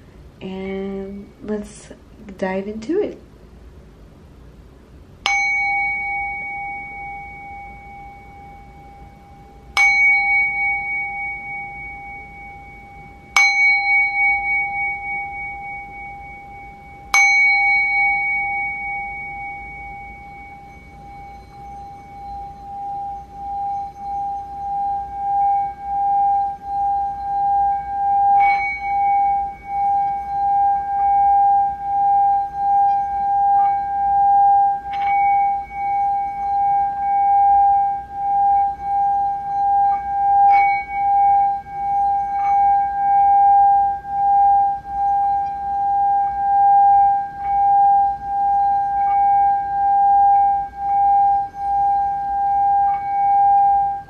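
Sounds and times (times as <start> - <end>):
singing bowl struck with mallet: 5.2 - 54.0
mallet rubbed around bowl rim: 9.8 - 54.0.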